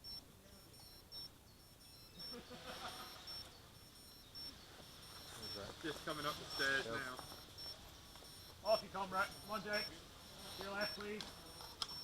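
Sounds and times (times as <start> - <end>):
faint distant voices: 0.0 - 12.0
high-pitched electronic beeps: 0.0 - 12.0.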